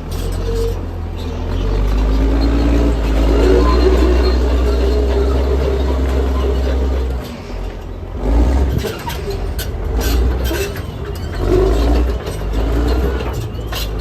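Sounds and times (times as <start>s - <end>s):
bulldozer diesel engine rumbling: 0.0s - 14.0s
metal knocks and scrapes: 0.0s - 14.0s.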